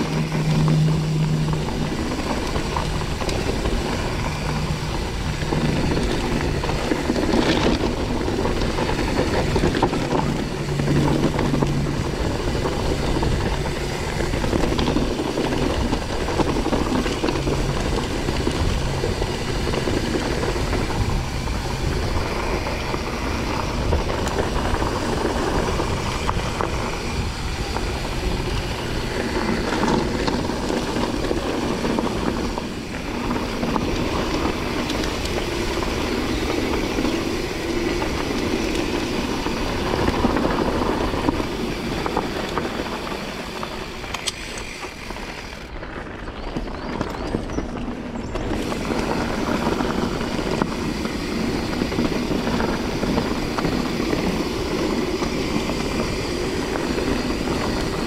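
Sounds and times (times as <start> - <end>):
bike clicks and knocks: 0.0 - 58.0
wind rush on microphone: 0.0 - 58.0.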